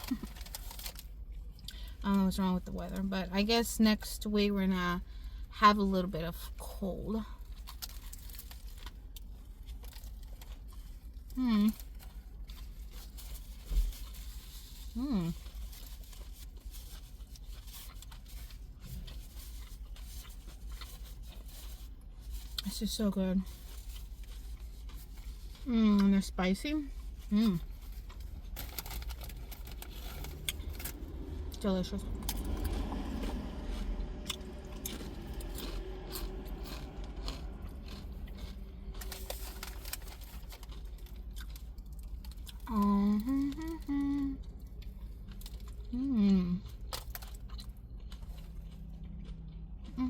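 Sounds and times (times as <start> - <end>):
steady low hum: 0.0 - 50.0
person chewing food: 7.4 - 22.7, 23.5 - 26.1, 26.9 - 50.0.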